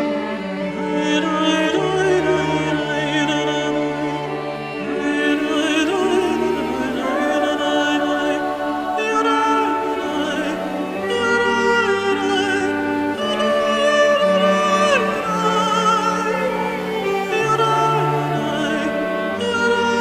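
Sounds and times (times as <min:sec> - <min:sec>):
operatic singing with vibrato: 0:00.0 - 0:20.0.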